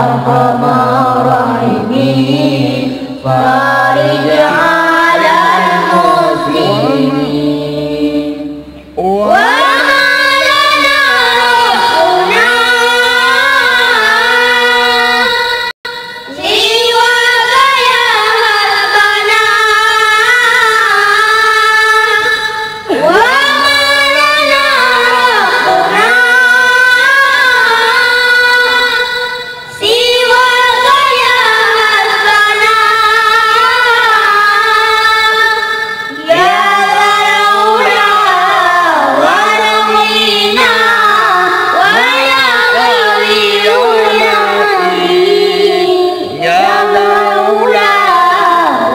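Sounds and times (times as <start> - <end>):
boys singing unaccompanied: 0.0 - 48.9.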